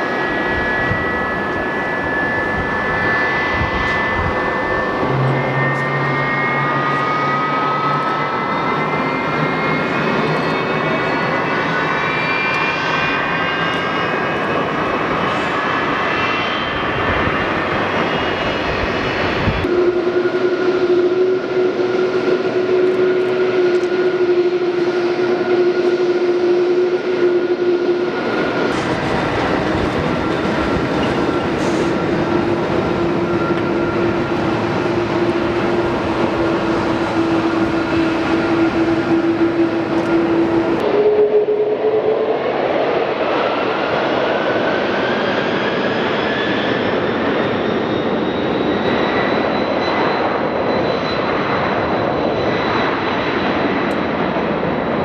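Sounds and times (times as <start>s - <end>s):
rushing noise: 0.0s - 13.3s, 14.0s - 47.4s
jet engines whining: 0.0s - 55.0s.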